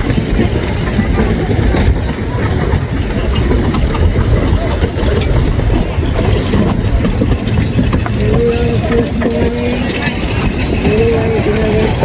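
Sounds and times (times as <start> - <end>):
wagon rolling with rattling: 0.0 - 12.0.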